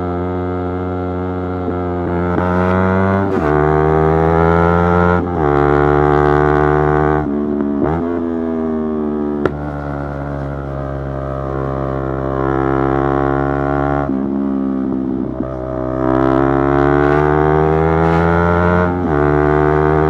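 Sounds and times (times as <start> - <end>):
motorcycle engine revving: 0.8 - 20.0.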